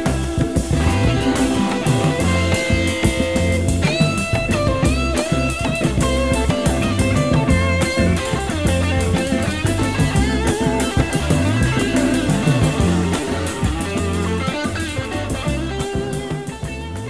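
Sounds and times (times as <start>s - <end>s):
drum kit: 0.0s - 17.0s
electric guitar melody: 0.0s - 17.0s.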